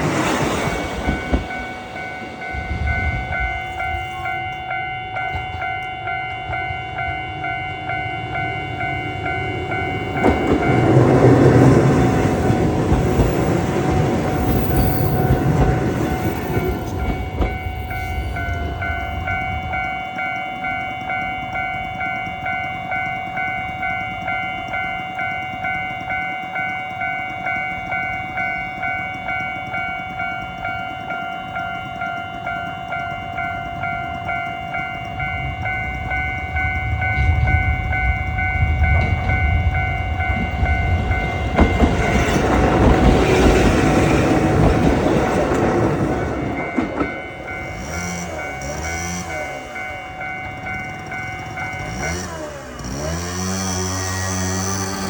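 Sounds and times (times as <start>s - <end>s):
electric train passing: 0.0s - 55.0s
level crossing warning bell: 0.0s - 55.0s.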